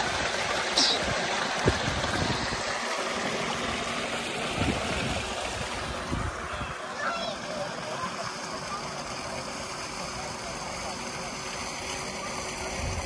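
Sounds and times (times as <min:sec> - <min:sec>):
water gushing into a tank: 0:00.0 - 0:13.0.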